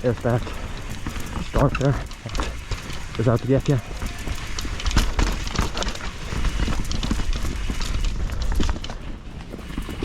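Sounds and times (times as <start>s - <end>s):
mountain bike rattling and knocking: 0.0s - 10.0s.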